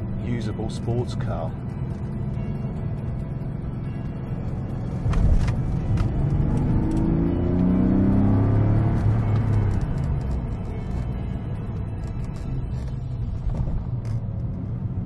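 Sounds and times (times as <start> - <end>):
car engine accelerating: 1.1 - 15.0.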